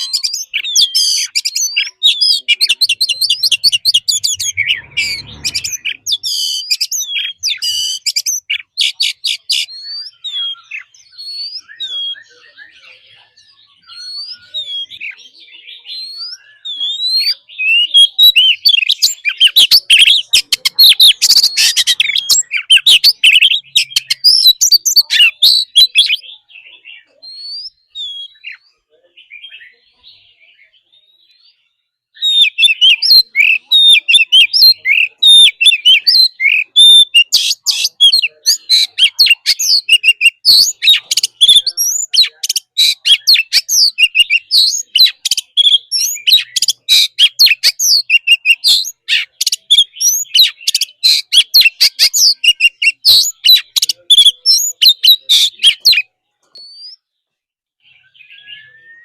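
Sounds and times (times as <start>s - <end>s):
bird singing whistled notes: 0.0s - 57.1s, 57.8s - 59.0s.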